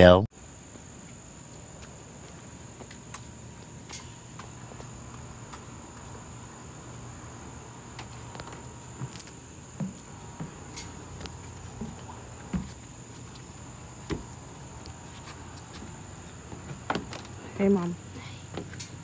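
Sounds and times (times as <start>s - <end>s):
high insect trill: 0.4s - 19.0s.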